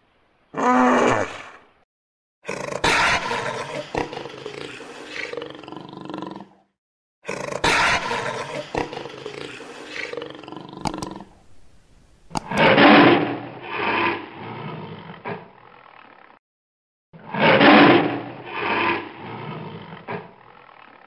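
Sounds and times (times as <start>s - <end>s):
big cat roaring: 0.5s - 1.7s, 2.4s - 11.3s, 12.6s - 16.4s, 17.2s - 21.0s.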